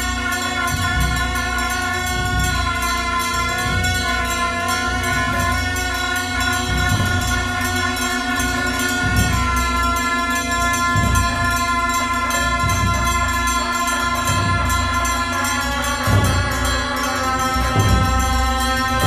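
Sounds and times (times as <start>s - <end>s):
sustained ritual drone: 0.0s - 19.0s.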